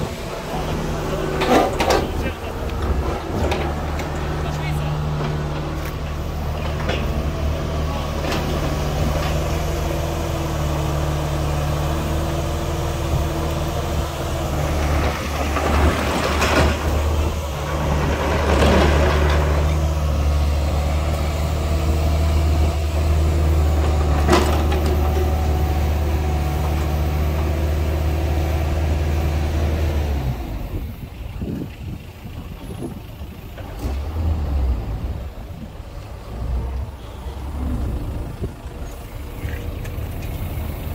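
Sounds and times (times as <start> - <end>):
excavator diesel engine running: 0.0 - 40.9
hydraulics working: 0.0 - 40.9.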